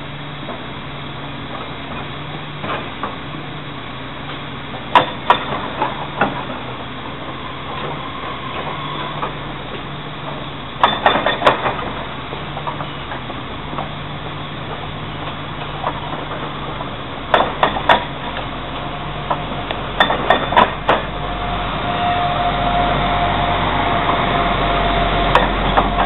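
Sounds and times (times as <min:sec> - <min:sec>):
diesel train engine drone: 0:00.0 - 0:26.0.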